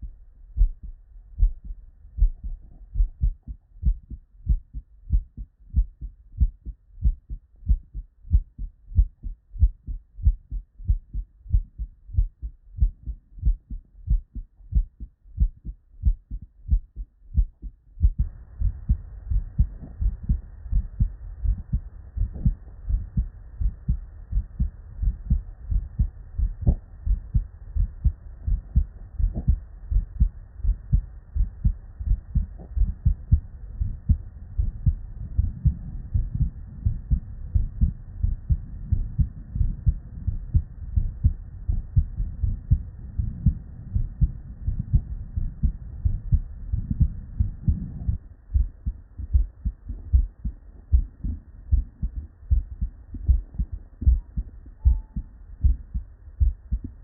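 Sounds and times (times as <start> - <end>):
heartbeat through stethoscope: 0.0 - 57.0.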